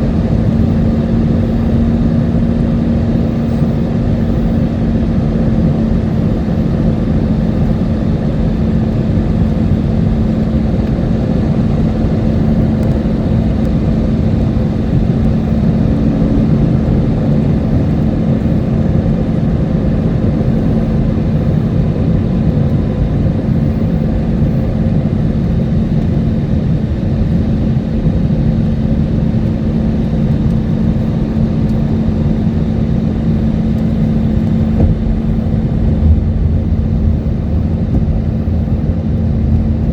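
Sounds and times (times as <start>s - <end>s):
constant low hum: 0.0s - 39.9s
engine and airflow rush: 0.0s - 39.9s.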